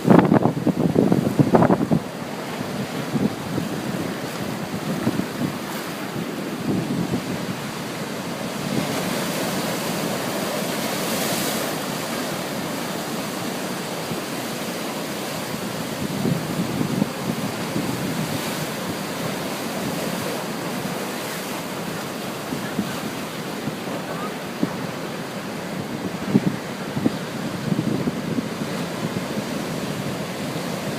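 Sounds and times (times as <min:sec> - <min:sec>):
ocean waves breaking: 0:00.0 - 0:30.9.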